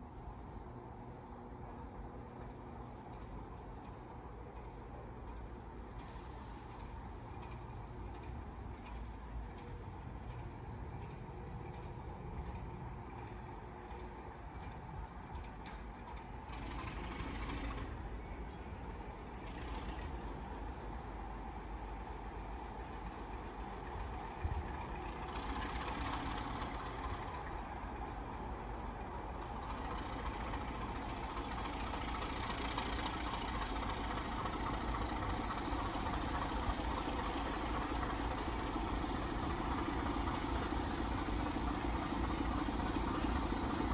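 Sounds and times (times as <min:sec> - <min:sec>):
diesel locomotive engine running: 0:00.0 - 0:43.9.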